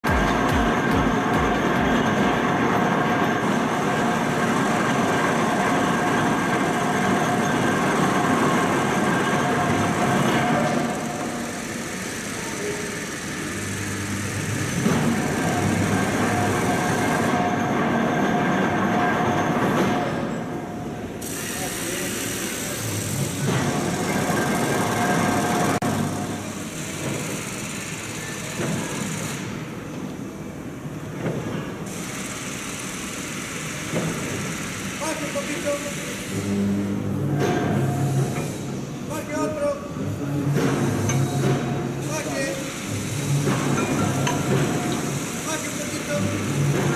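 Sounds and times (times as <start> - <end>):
mechanical running noise: 0.0 - 30.0, 31.8 - 46.9.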